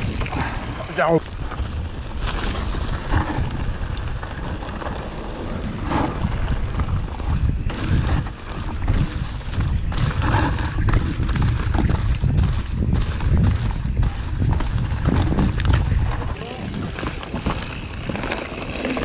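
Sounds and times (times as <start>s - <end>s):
bike knocks and rattles: 0.0s - 19.0s
bike tyres rumbling on trail: 0.0s - 19.0s
wind on microphone: 0.0s - 19.0s.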